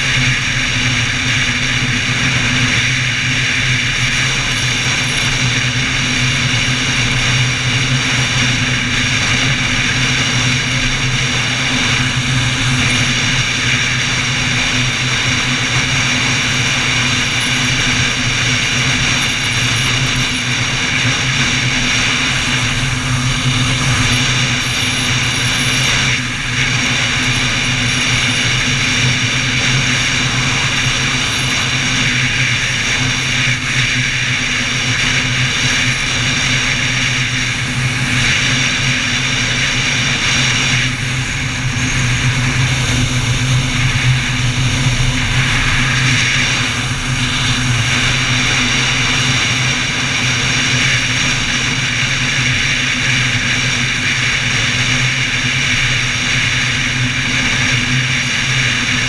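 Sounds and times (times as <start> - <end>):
wind rushing over camera: 0.0 - 59.0.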